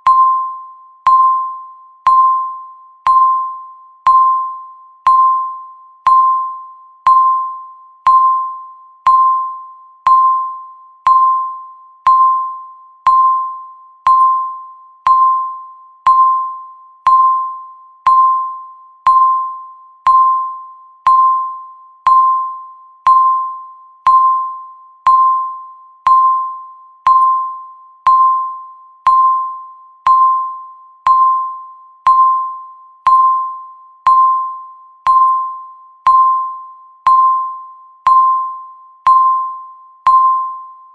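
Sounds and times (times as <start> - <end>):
electronic timer ticking: 0.0 - 40.6.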